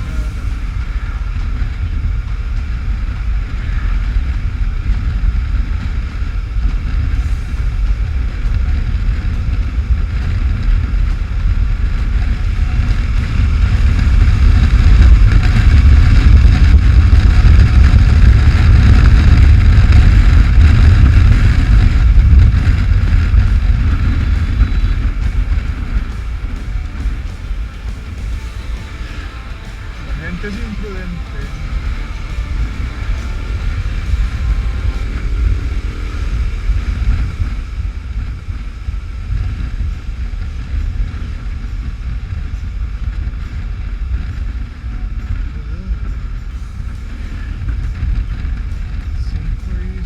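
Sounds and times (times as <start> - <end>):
motorcycle engine running: 0.0 - 50.0
wind buffeting microphone: 0.0 - 50.0.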